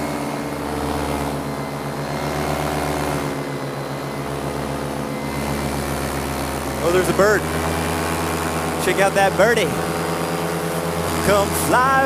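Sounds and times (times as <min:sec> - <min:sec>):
paramotor engine drone: 0:00.0 - 0:12.0.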